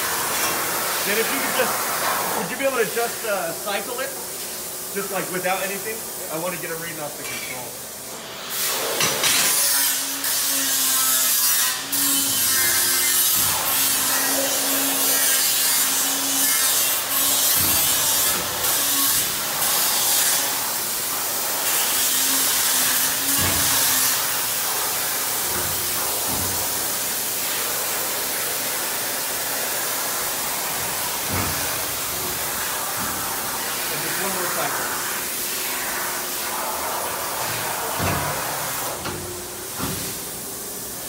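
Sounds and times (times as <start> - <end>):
hydraulic hiss: 0.0 - 41.0.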